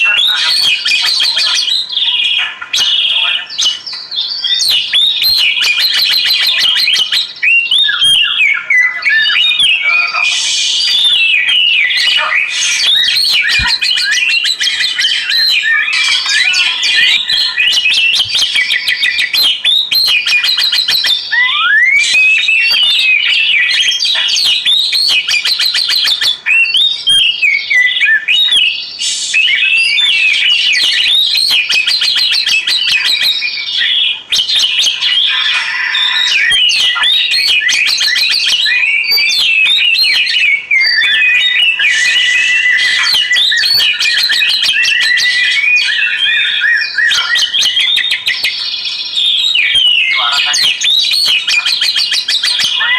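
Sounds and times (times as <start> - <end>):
bird singing whistles and trills: 0.0 - 52.9.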